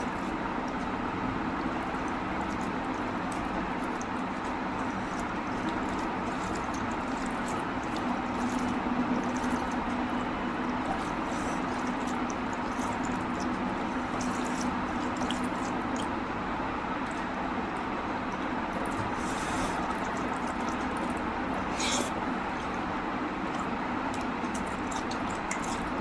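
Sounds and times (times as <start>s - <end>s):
wet eating sounds: 0.0s - 26.0s.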